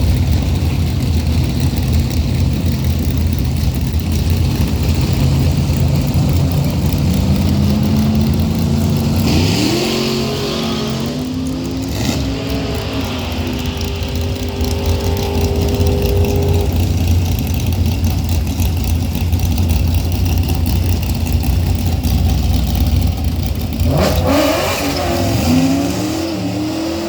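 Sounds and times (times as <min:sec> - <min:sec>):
drag racing engines rumbling: 0:00.0 - 0:27.0.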